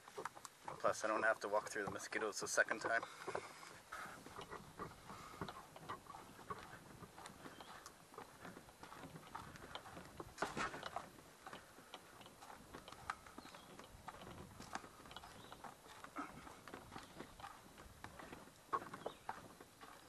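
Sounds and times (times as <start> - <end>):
faint footsteps on trail: 0.0 - 20.0
light clicks and knocks: 0.0 - 20.0.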